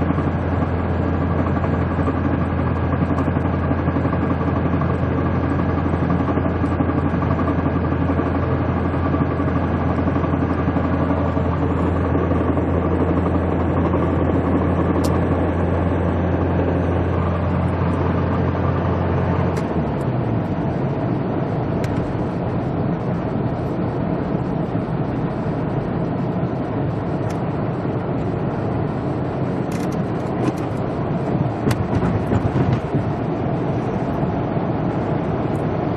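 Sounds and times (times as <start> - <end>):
car engine low drone: 0.0 - 35.9.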